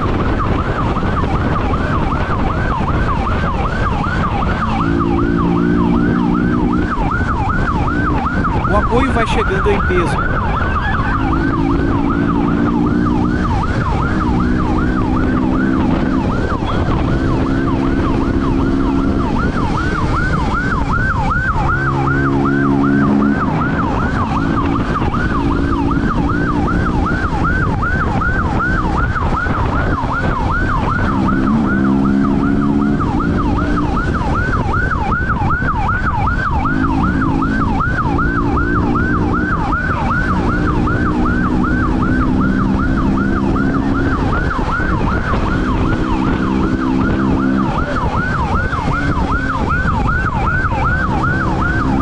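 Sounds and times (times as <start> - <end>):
police siren sweeping: 0.0 - 52.0
road noise: 0.0 - 52.0.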